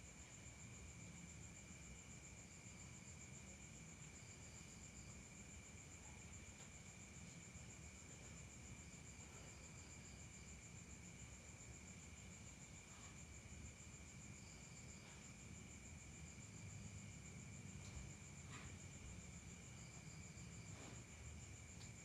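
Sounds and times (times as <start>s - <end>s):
crickets trilling: 0.1s - 22.0s.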